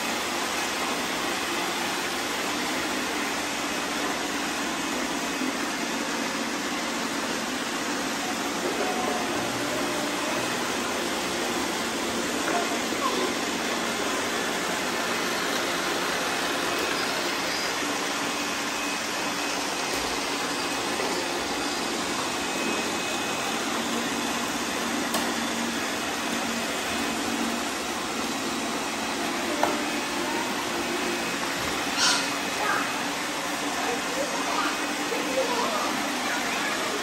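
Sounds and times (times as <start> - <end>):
robot vacuums whirring: 0.2 - 37.0.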